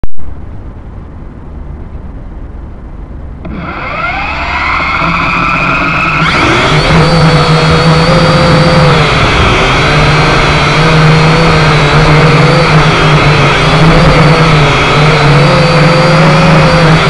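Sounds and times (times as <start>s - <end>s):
drone propellers whining: 0.3s - 17.0s.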